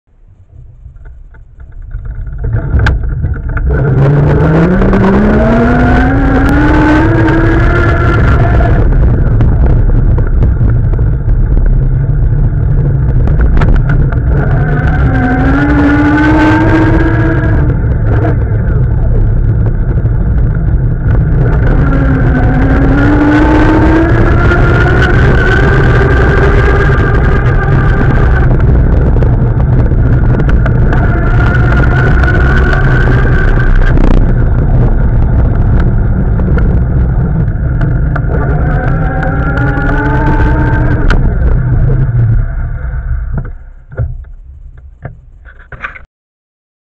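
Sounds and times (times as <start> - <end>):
rising pitched hum: 0.1 - 45.9
wind buffeting microphone: 0.3 - 46.0
bike rumble on brick paving: 0.4 - 46.0.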